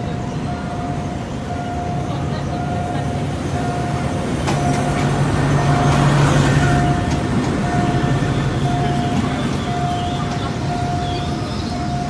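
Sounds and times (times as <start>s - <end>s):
train rumble and hum: 0.0s - 12.0s.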